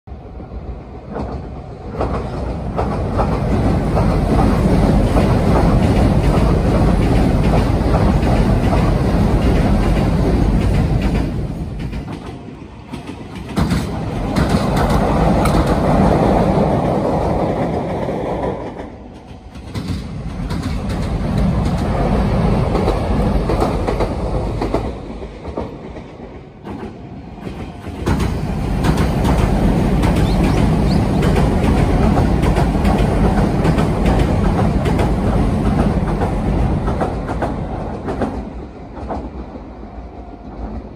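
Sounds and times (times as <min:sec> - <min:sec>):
train wheels clattering on track: 0:01.0 - 0:39.6.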